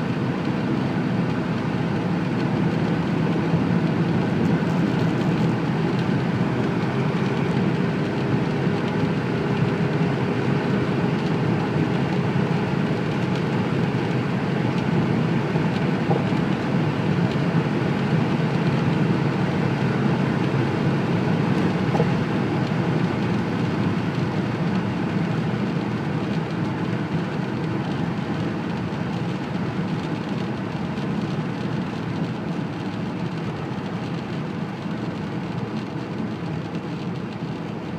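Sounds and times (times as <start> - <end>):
car engine drone: 0.0 - 37.9
road and wind noise: 0.0 - 37.9.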